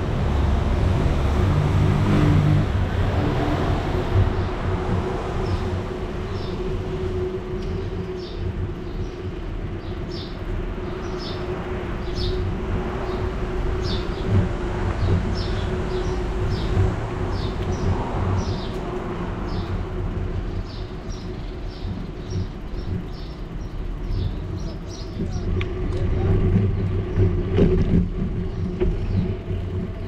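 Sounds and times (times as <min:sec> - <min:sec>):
bicycle rumbling along street: 0:00.0 - 0:30.0.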